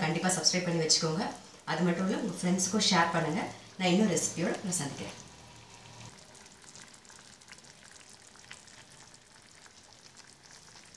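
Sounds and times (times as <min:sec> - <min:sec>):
chutney bubbling and popping: 0:01.8 - 0:10.9.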